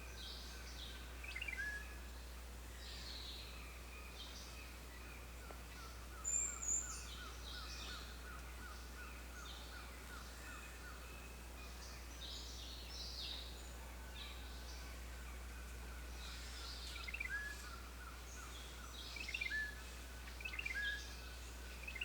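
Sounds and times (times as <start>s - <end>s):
birds calling and chirping: 2.8s - 22.0s.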